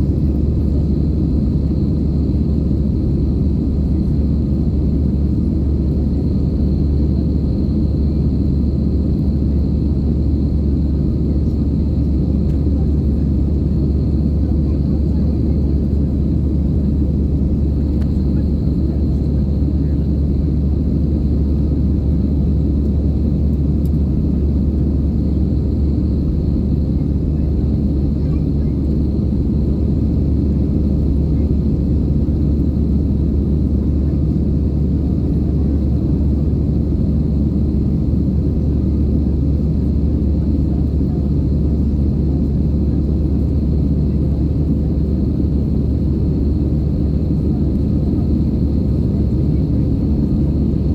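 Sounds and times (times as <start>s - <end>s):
jet engine roar in cabin: 0.0s - 50.9s.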